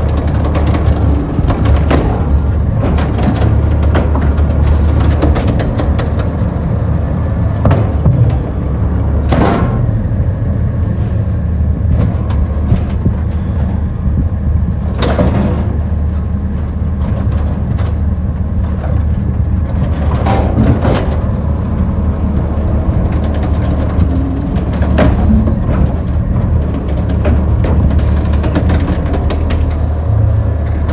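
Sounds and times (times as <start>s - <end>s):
garbage truck diesel engine: 0.0s - 30.9s.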